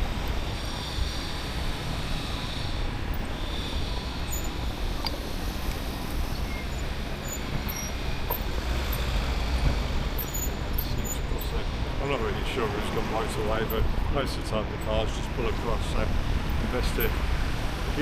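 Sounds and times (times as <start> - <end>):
tyres hissing on road: 0.0 - 18.0.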